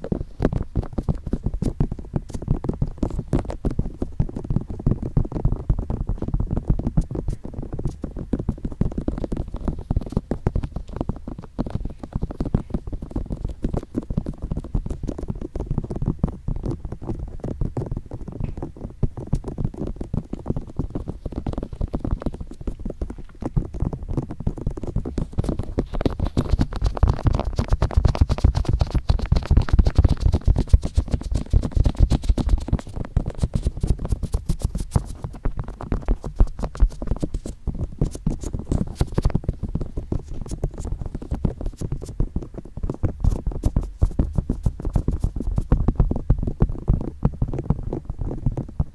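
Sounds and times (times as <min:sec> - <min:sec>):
fingertips tapping on ear: 0:05.4 - 0:47.1.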